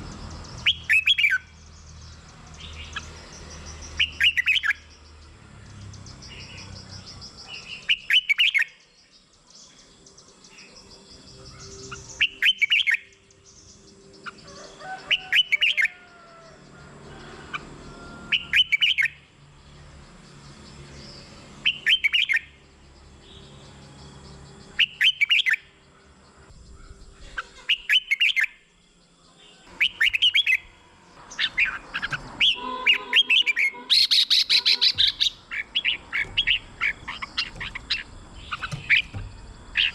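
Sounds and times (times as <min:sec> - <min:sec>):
bird singing chirpy phrases: 0:00.0 - 0:16.5, 0:18.3 - 0:39.9.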